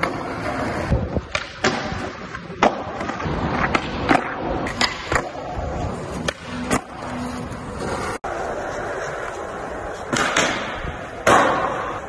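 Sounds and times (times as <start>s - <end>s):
skateboard clacking on ground: 0.0s - 7.2s, 7.8s - 12.0s
skateboard wheels rolling on pavement: 0.0s - 12.0s.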